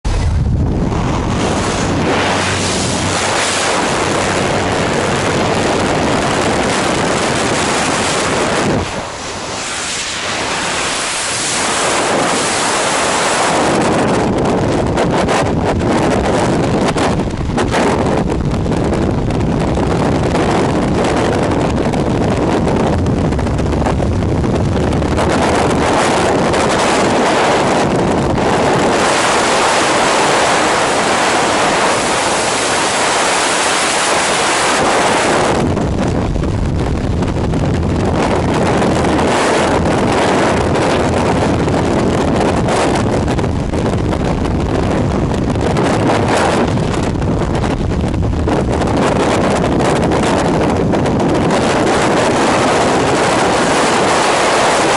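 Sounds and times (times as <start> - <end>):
wind rushing across microphone: 0.0 - 54.9.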